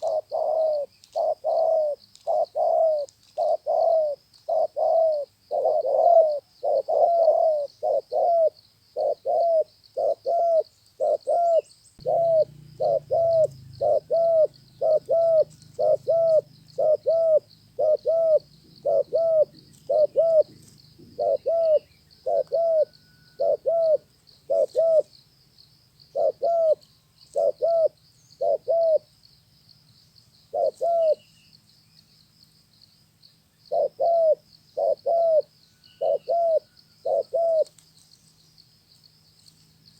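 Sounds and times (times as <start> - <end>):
dove cooing: 0.0 - 25.2, 26.1 - 29.1, 30.5 - 31.3, 33.7 - 37.8.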